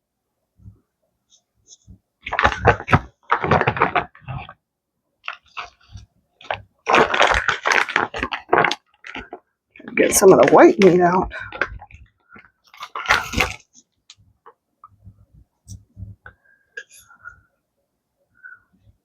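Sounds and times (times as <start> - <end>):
rustling and clicking of food handling: 0.7 - 17.3.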